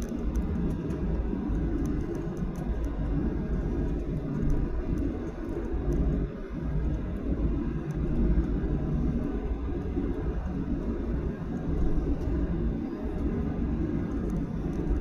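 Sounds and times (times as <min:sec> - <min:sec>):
airliner cabin low rumble: 0:00.0 - 0:15.0.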